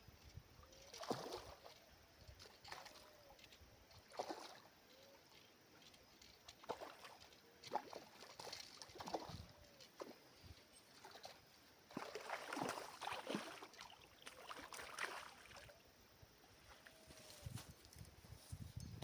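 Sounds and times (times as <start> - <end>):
river water lapping at bank: 0.6 - 17.2.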